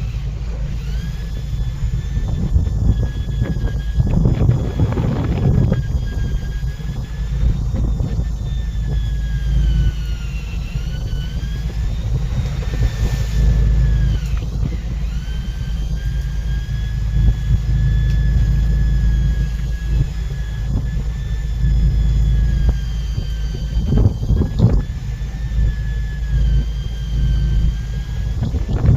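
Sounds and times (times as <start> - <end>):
high motor whine: 0.0 - 28.9
low engine rumble: 0.0 - 28.9.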